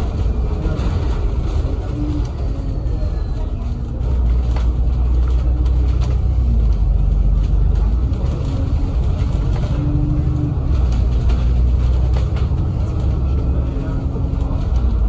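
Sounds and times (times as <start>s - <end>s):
bus body rattling: 0.0s - 15.0s
bus engine and road rumble: 0.0s - 15.0s.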